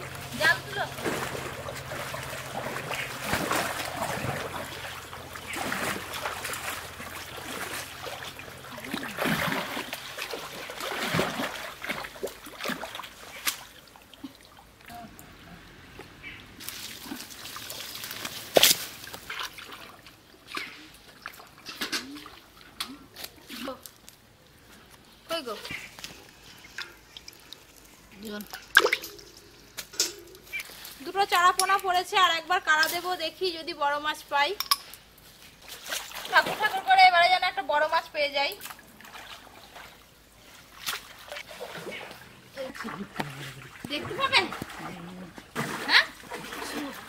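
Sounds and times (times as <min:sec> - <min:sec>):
pond water sloshing and splashing: 0:00.0 - 0:47.0.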